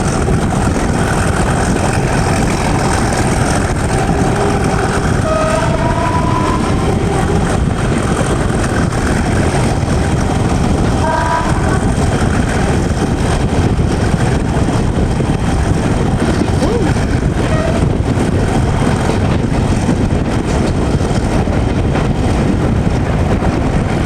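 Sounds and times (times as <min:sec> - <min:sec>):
train engine and wheels running: 0:00.0 - 0:24.0.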